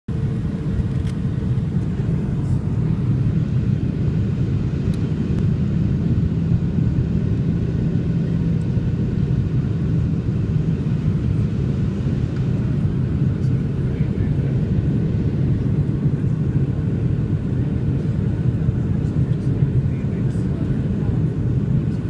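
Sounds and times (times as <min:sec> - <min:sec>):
low rumble of engines and airflow: 0:00.1 - 0:22.0.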